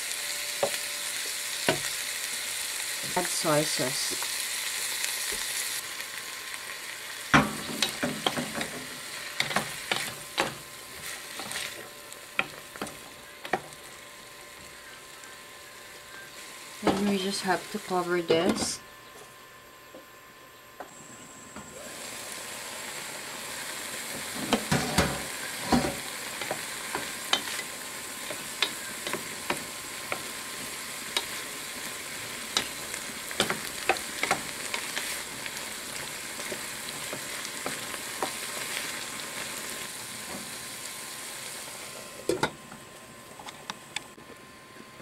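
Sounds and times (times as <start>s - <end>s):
beans sizzling in a pan: 0.0s - 19.8s, 20.8s - 44.2s.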